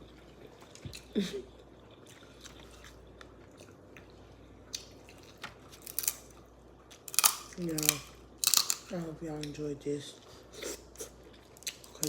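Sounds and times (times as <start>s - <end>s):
person chewing food: 0.0s - 9.6s, 10.2s - 12.0s.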